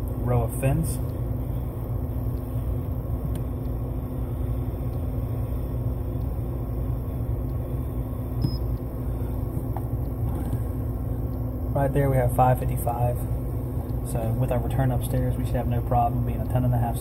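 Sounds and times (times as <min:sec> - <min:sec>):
air handler blower rumbling: 0:00.0 - 0:17.0
faint steady hum: 0:00.0 - 0:17.0.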